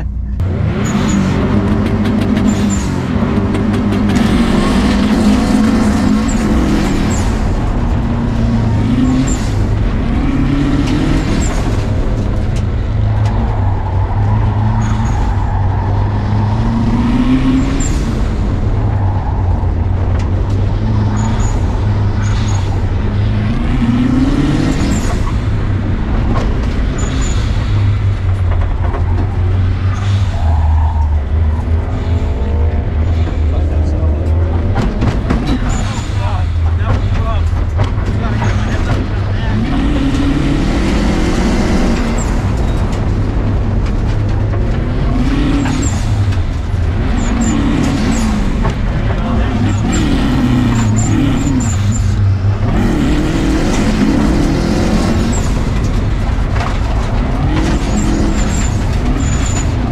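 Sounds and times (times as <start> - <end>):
rally car engine accelerating: 0.0 - 59.9
tyre and gravel noise: 1.2 - 59.9.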